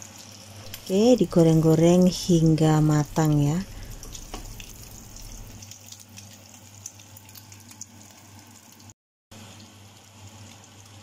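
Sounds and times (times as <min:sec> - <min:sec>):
patties sizzling in hot oil: 0:00.0 - 0:11.0.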